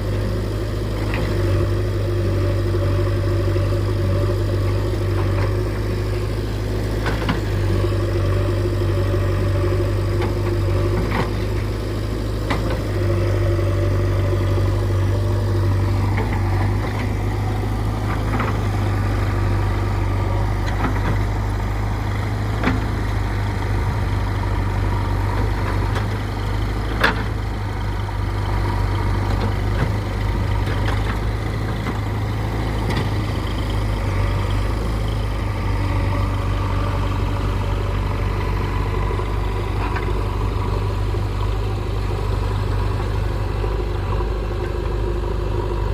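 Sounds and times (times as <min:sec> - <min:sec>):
heavy diesel engine humming: 0:00.0 - 0:45.9.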